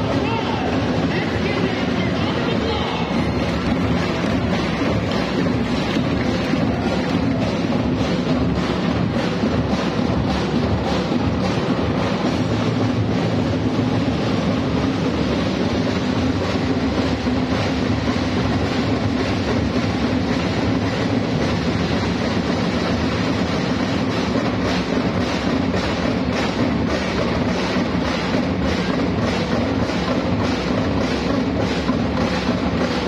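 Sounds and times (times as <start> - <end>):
drum band playing: 0.0 - 33.0.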